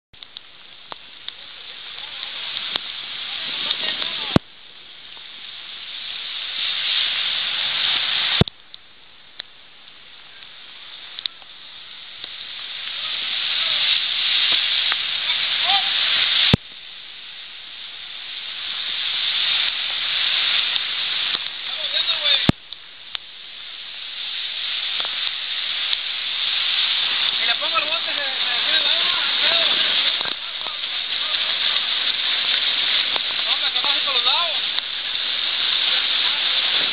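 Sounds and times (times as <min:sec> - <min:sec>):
rain hissing: 0:00.2 - 0:36.9
running floodwater: 0:00.2 - 0:36.9.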